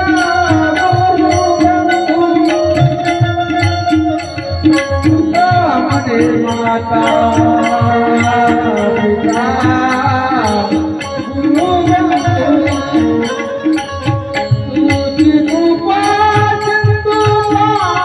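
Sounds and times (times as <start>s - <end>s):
drum beats: 0.0s - 18.0s.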